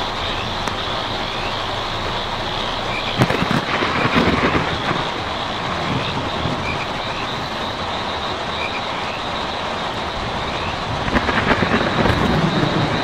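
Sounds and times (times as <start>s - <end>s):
rain on a tin roof: 0.0s - 13.0s.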